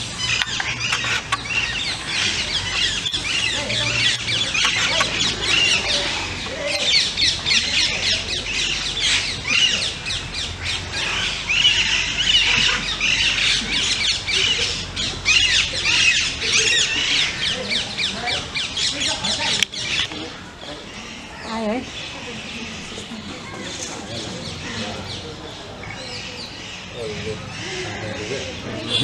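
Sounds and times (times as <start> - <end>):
chorus of birds squawking: 0.0 - 29.0.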